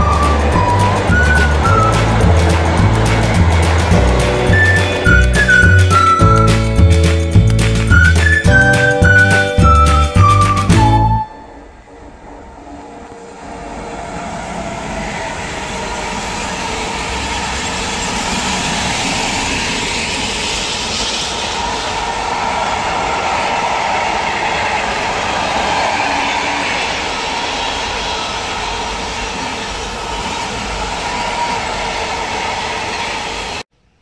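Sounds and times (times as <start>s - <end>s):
freight train wheels rumbling: 0.0s - 33.7s.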